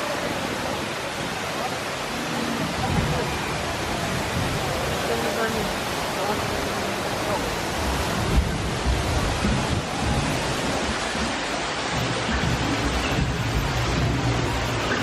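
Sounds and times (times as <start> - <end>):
steady rushing noise: 0.0 - 15.0
low rumbling: 2.1 - 15.0.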